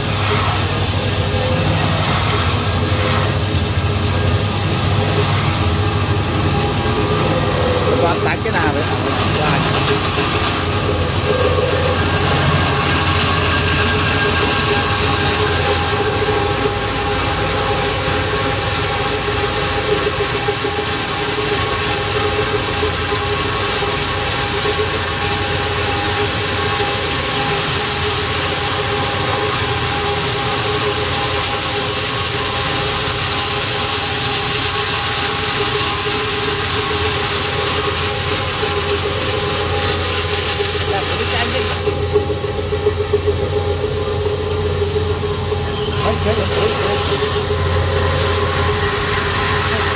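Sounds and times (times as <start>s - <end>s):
bandsaw cutting through log: 0.1s - 49.9s.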